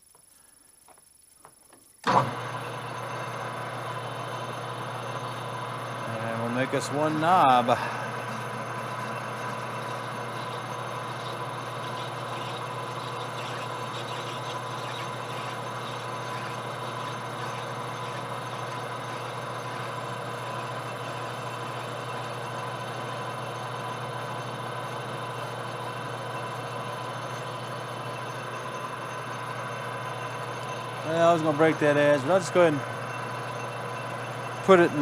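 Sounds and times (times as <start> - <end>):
metal lathe running: 2.0 - 35.0.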